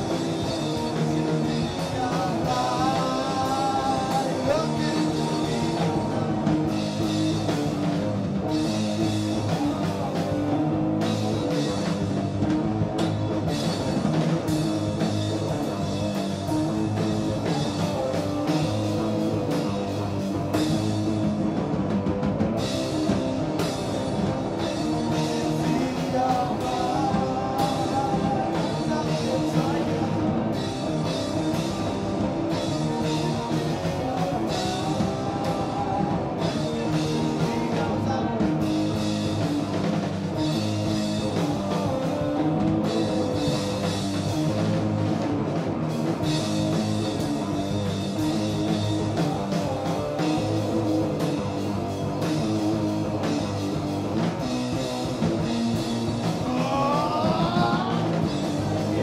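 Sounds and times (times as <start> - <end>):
distorted electric guitar: 0.0 - 59.0
drum kit: 0.0 - 59.0.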